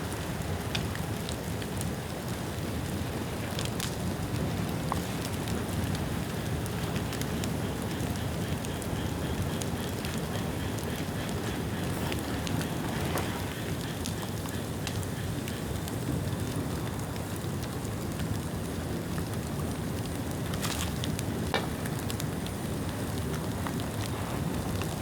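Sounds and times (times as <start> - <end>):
bonfire flames hissing: 0.0 - 25.0
fire crackling and popping: 0.0 - 25.0.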